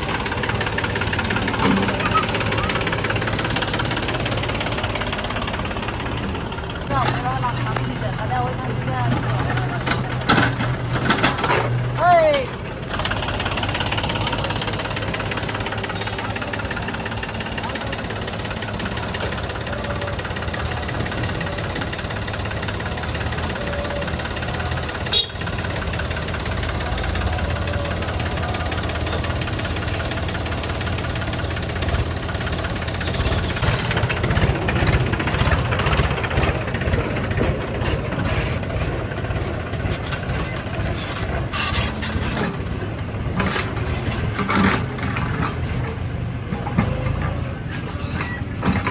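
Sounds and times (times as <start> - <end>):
clanks and clatter: 0.0 - 48.9
heavy diesel engine running: 0.0 - 48.9.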